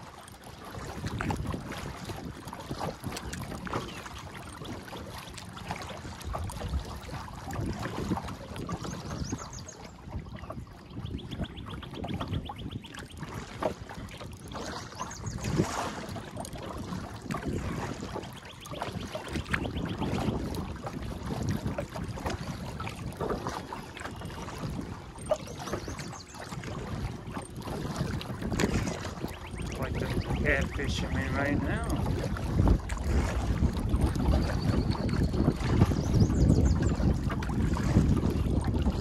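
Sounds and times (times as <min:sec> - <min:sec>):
water lapping: 0:00.0 - 0:39.0
wind buffeting microphone: 0:00.0 - 0:39.0.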